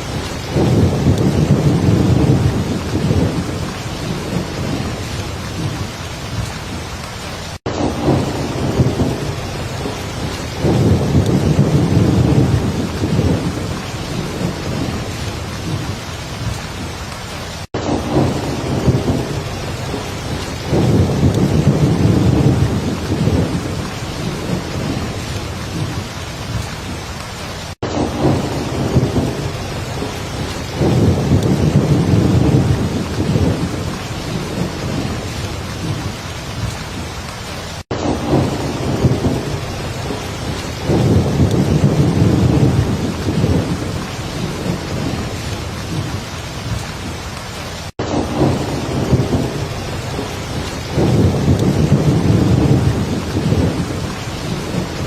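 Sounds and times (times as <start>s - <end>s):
low thunder rumble: 0.0s - 6.9s, 7.7s - 27.0s, 27.8s - 37.1s, 38.0s - 47.3s, 48.0s - 55.0s
heavy rain falling: 0.0s - 55.0s.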